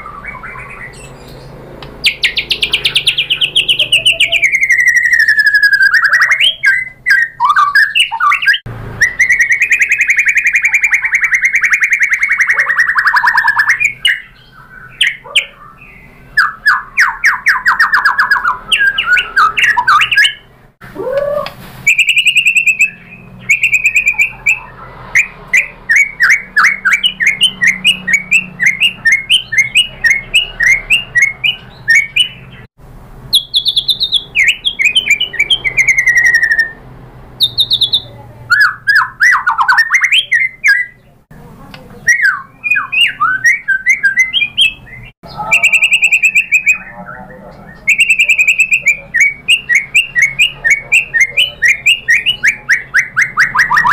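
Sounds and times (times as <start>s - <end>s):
songbird whistles and trills: 0.0s - 32.7s, 33.3s - 36.8s, 37.4s - 41.1s, 42.0s - 53.9s.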